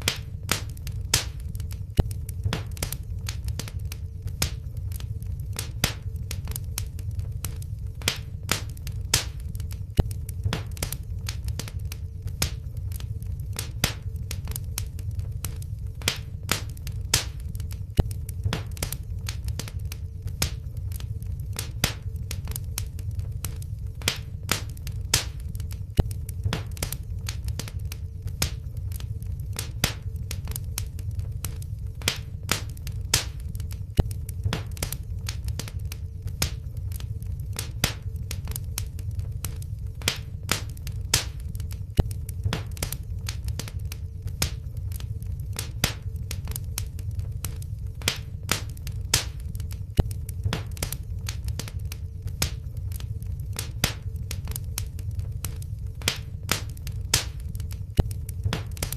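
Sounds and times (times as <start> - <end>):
fire pops: 0.0 - 58.9
wood fire crackling: 0.0 - 58.9.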